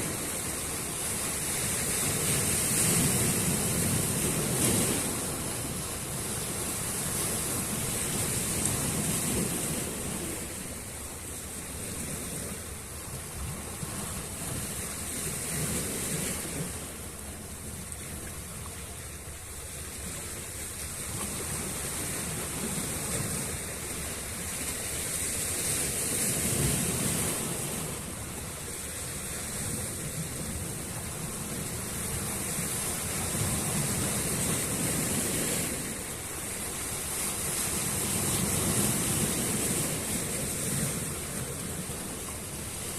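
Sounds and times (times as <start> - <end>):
sea waves breaking on shore: 0.0 - 42.9.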